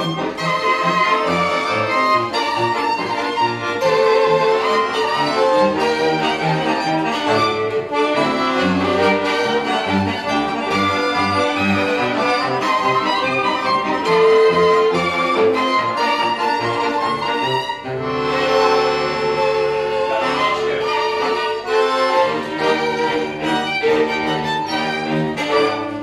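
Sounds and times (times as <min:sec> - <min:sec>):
accordion: 0:00.0 - 0:26.0
bowed cello bass line: 0:00.0 - 0:26.0
fiddles playing melody: 0:00.0 - 0:26.0.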